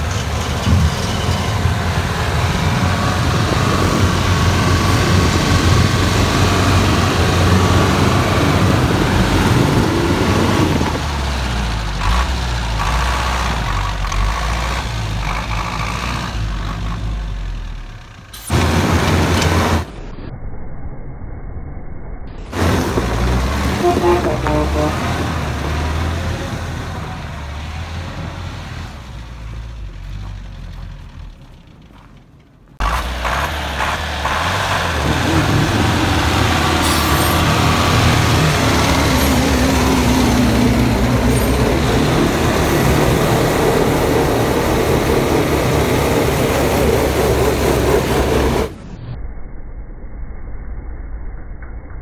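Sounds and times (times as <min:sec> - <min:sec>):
truck engine revving: 0:00.0 - 0:20.1, 0:22.4 - 0:49.0.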